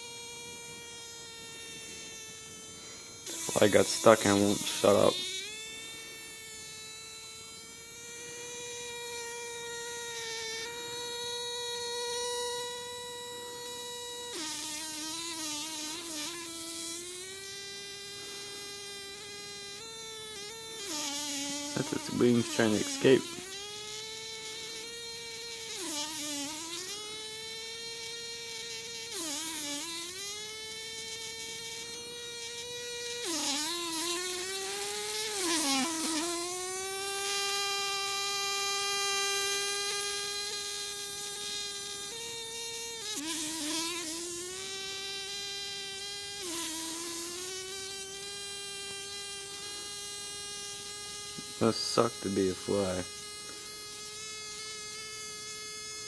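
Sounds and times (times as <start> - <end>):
fly buzzing: 0.0 - 56.0.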